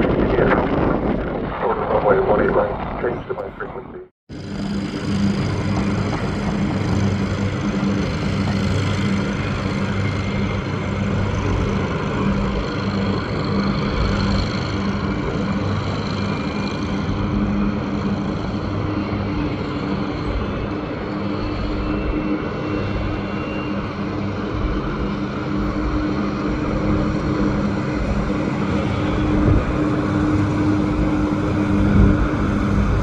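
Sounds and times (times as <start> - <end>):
aircraft engine noise: 0.0 - 33.0
constant low hum: 0.0 - 33.0.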